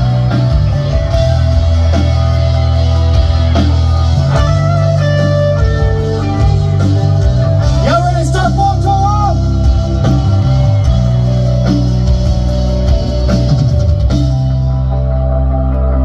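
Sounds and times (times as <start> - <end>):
electric guitar: 0.0 - 16.0
steady bass line: 0.0 - 16.0.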